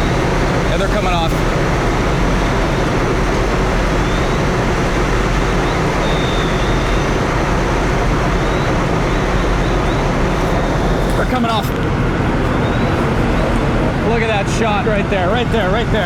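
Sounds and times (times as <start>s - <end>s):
fire burning: 0.0s - 16.0s
fire engines running: 0.0s - 16.0s.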